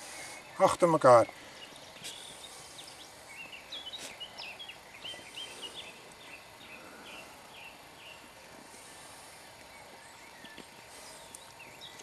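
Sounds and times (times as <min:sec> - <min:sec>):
faint outdoor background noise: 0:00.0 - 0:12.0
songbird chirping: 0:00.0 - 0:12.0.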